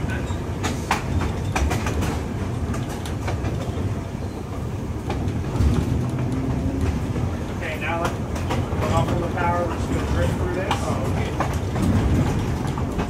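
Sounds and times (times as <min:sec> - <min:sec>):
streetcar rumble: 0:00.0 - 0:13.0
wheels clicking on rails: 0:00.0 - 0:13.0.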